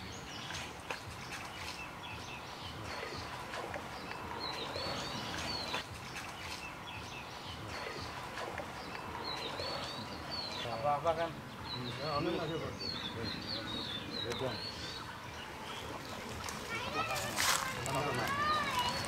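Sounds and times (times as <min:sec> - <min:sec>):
outdoor background noise: 0:00.0 - 0:19.0
small birds chirping: 0:00.0 - 0:19.0.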